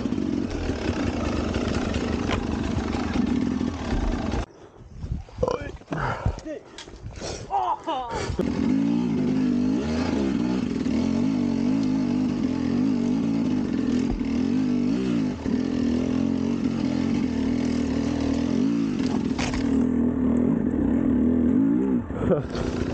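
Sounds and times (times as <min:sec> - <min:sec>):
dirt bike engine revving: 0:00.0 - 0:04.5, 0:08.4 - 0:22.9.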